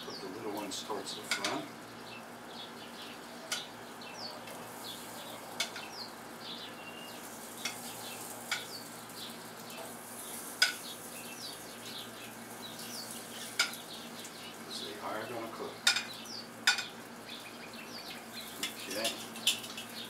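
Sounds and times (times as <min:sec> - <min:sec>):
potatoes sizzling on grill: 0:00.0 - 0:20.0.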